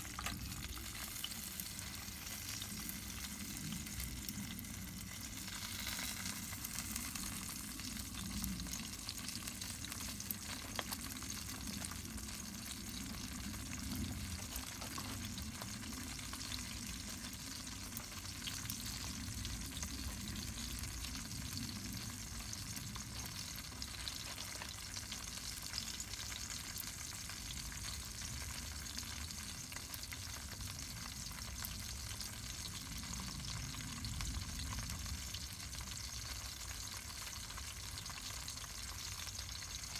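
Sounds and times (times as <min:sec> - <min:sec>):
wood fire crackling and hissing: 0:00.0 - 0:39.9.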